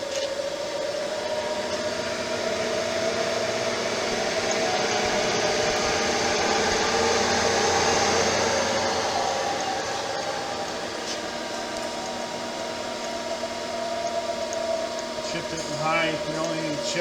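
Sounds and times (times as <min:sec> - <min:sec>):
grinder machine hum and whine: 0:00.0 - 0:17.0.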